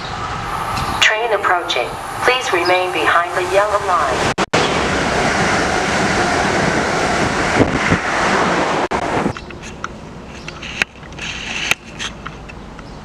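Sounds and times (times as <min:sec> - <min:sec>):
train passing at speed: 0:00.0 - 0:10.8.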